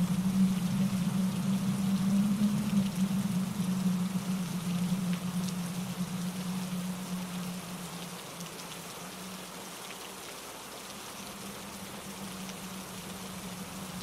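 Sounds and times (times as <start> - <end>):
low steady hum: 0.0 - 9.8, 10.8 - 14.0
rain falling through trees: 0.0 - 14.0.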